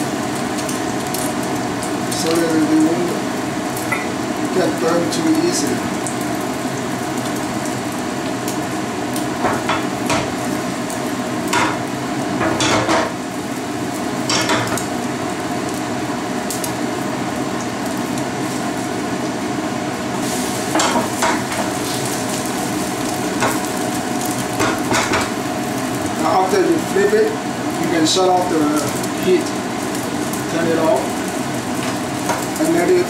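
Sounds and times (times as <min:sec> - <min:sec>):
omelette sizzling in a frying pan: 0:00.0 - 0:33.0.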